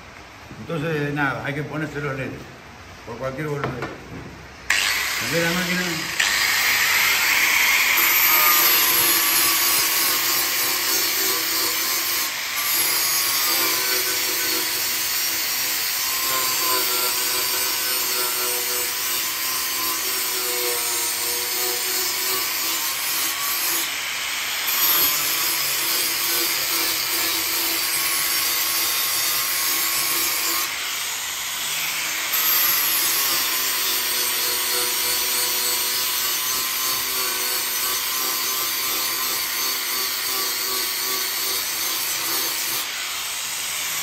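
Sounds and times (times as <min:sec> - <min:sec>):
angle grinder grinding steel: 0:04.7 - 0:44.0.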